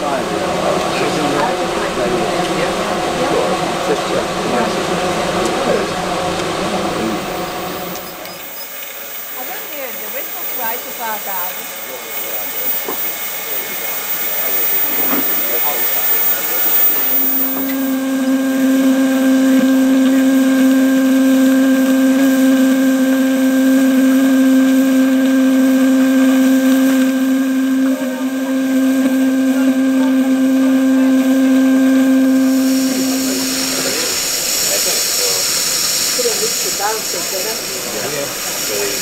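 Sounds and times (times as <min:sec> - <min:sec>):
steam locomotive whistle: 0:00.0 - 0:39.0.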